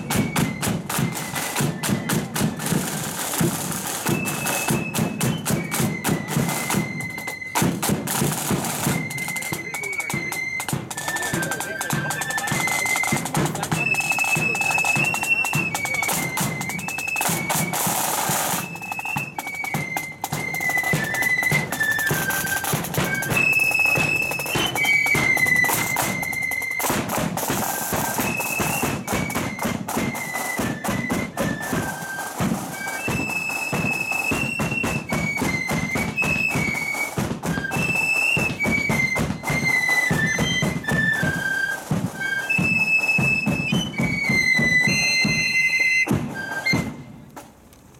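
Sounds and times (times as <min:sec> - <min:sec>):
flutes playing high melody: 0:00.0 - 0:47.3
marching drums beating: 0:00.0 - 0:47.6.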